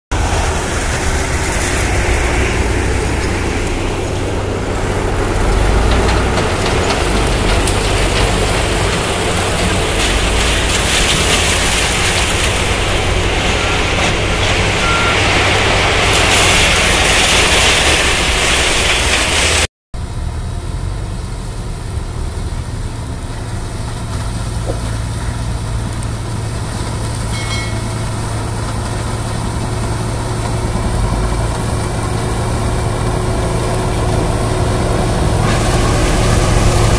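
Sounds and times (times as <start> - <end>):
harvester engine: 0.1 - 36.9
tractor engine under load: 0.1 - 36.9.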